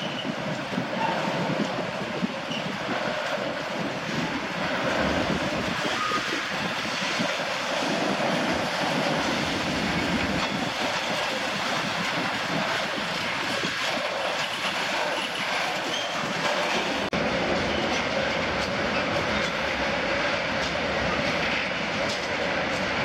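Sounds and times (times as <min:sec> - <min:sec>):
freight train wagons rolling: 0:00.0 - 0:23.0.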